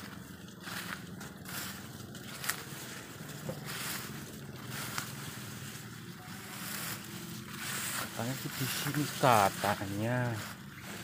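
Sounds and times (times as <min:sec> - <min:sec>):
footsteps rustling through grass: 0:00.0 - 0:11.0.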